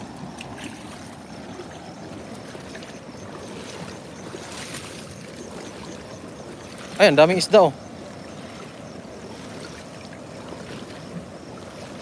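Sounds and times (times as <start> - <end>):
shallow water flowing: 0.0 - 12.0
small water splashes: 0.0 - 12.0.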